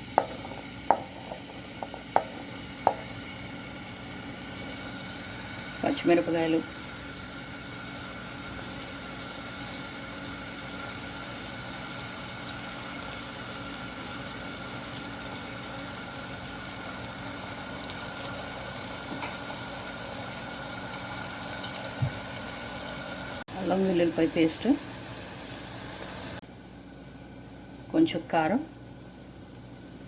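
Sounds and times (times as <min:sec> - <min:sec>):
food sizzling in hot oil: 0:00.0 - 0:26.4.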